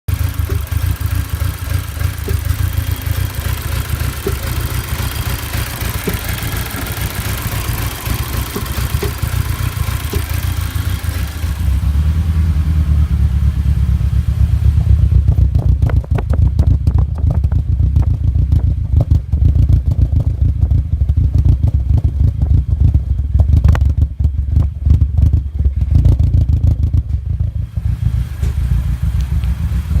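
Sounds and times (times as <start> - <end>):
car engine running rough: 0.0 - 30.0.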